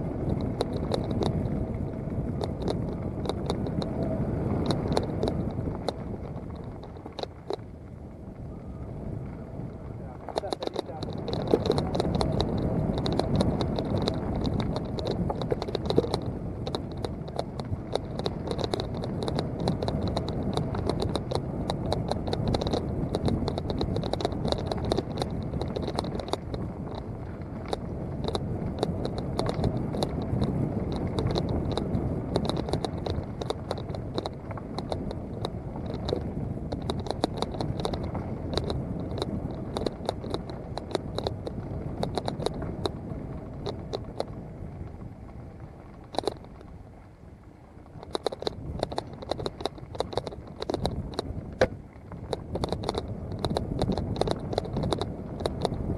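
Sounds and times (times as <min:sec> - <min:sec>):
bike rattling and clicking: 0:00.0 - 0:55.9
bike tyres crunching over dirt: 0:00.0 - 0:55.9.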